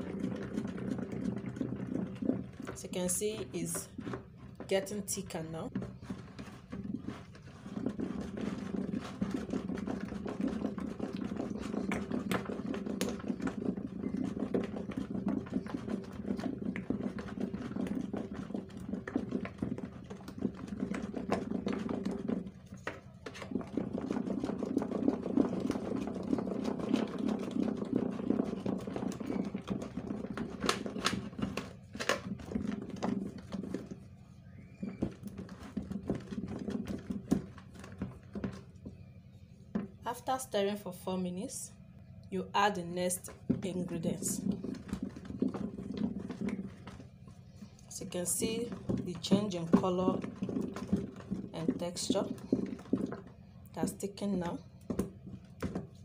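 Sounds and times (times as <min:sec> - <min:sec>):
stick churning liquid in bowl: 0:00.0 - 0:40.4, 0:42.3 - 0:56.0.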